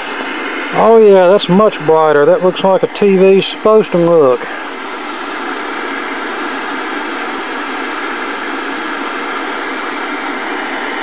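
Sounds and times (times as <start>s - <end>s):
television static hiss: 0.0s - 11.0s.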